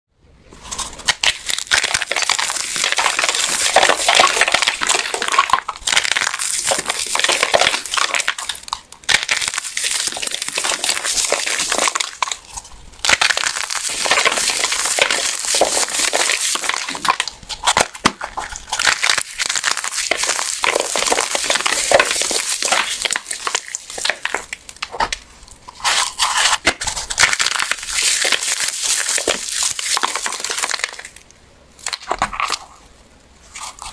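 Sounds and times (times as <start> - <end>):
soap blocks crunching: 0.9 - 31.2, 31.8 - 32.7.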